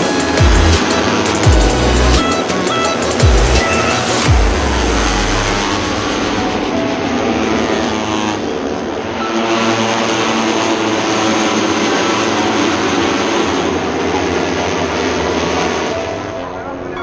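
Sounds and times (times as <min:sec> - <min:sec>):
racing motorcycles passing: 0:00.0 - 0:17.0.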